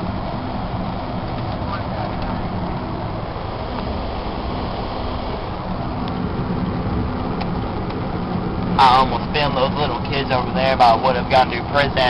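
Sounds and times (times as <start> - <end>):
road noise: 0.0 - 12.0
van engine hum: 0.0 - 12.0.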